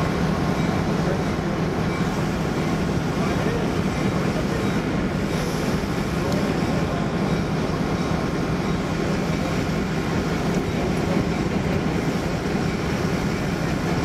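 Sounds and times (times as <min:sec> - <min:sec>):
diesel locomotive running: 0:00.0 - 0:14.0.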